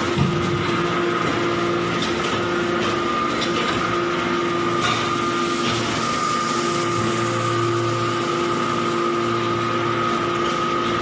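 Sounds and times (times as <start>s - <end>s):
machine hum with high whine: 0.0s - 11.0s.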